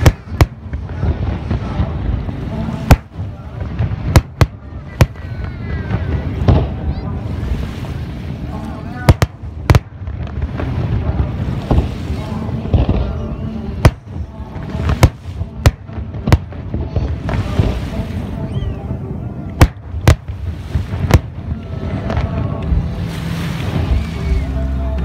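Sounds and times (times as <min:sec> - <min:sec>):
fireworks bursting: 0:00.0 - 0:18.9, 0:19.5 - 0:25.0.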